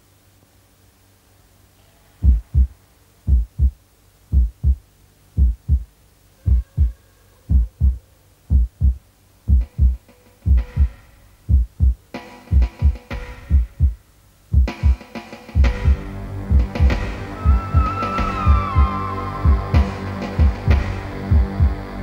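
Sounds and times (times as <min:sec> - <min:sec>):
faint music: 0:00.0 - 0:22.0
heartbeat thumps: 0:02.2 - 0:15.0, 0:15.6 - 0:22.0.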